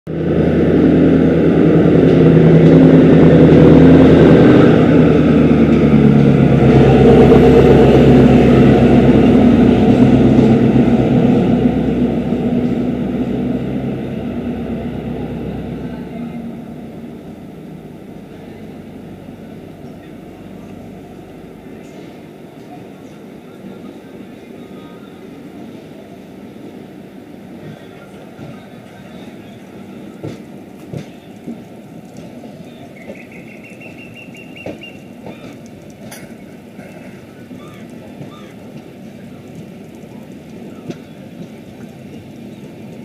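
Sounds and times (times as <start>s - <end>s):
diesel train engine droning: 0.1s - 43.0s.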